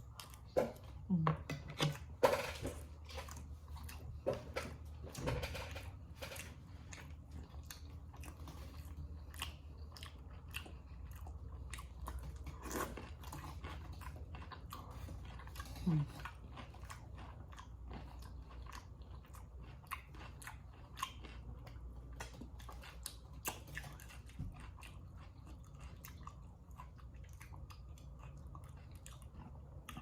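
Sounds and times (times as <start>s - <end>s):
person chewing food: 0.0s - 30.0s.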